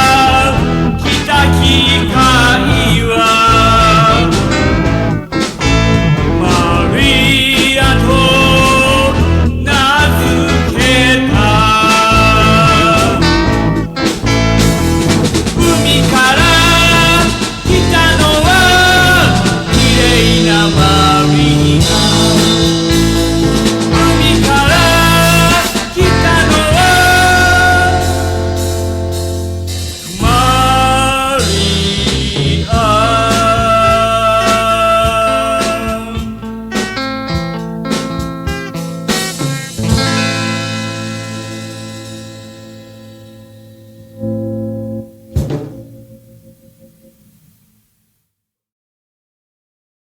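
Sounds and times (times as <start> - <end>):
blues-rock song: 0.0 - 47.4.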